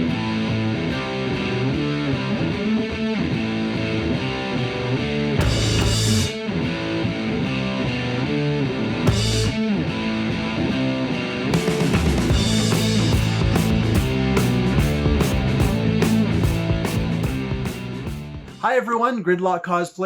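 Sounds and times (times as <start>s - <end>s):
rock music with electric guitar: 0.0s - 18.6s.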